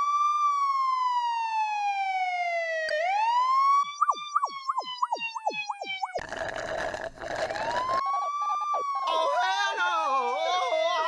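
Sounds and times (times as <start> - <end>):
police siren wail: 0.0 - 6.2, 7.6 - 11.0
rapid siren swoops: 0.0 - 6.2, 7.3 - 11.0.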